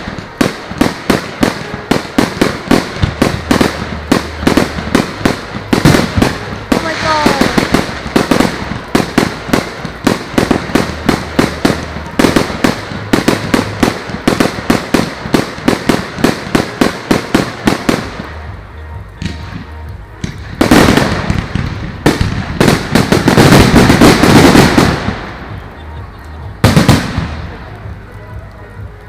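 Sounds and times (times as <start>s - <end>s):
crackling firework bursts: 0.0s - 29.0s
fireworks banging: 0.0s - 29.0s.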